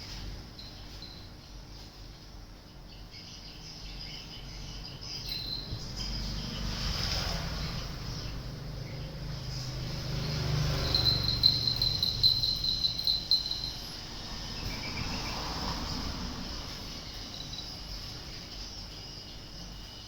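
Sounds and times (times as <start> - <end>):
high-pitched insect trill: 0.0 - 2.2, 2.9 - 20.0.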